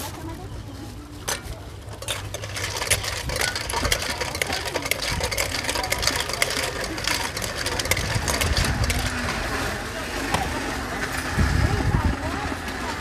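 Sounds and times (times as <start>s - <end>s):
utensils clattering in metal basin: 1.2s - 13.0s.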